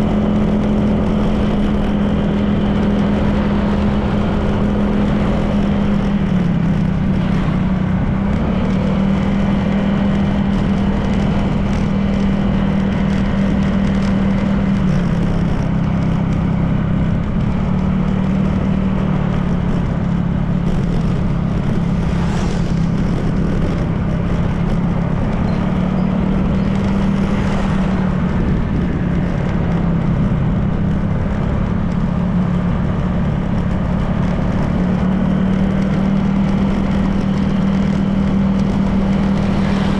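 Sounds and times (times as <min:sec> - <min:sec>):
scooter engine running: 0:00.0 - 0:39.9
wind noise: 0:00.0 - 0:39.9.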